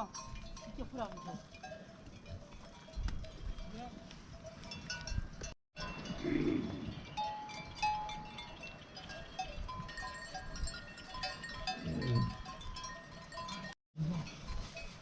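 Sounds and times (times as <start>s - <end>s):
bells tinkling on a flock: 0.0s - 15.0s.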